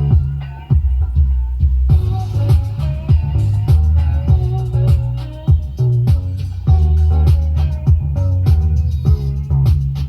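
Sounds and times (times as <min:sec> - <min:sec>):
bass line: 0:00.0 - 0:10.0
drum beat: 0:00.0 - 0:10.0
guitar: 0:00.0 - 0:10.0
song from cassette tape: 0:00.0 - 0:10.0.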